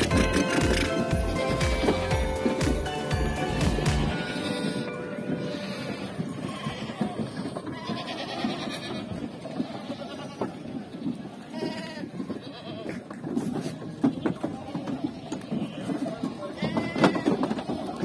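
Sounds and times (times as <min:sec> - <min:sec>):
goats and sheep bleating: 0:00.0 - 0:18.0.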